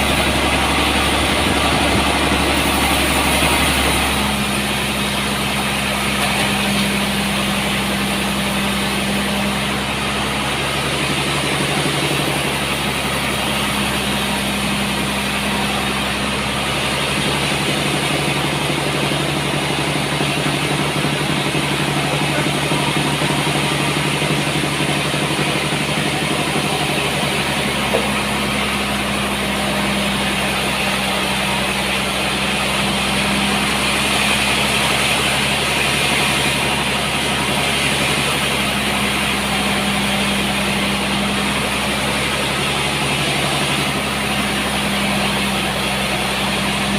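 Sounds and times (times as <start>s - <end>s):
sawmill machinery whirring: 0.0s - 46.9s.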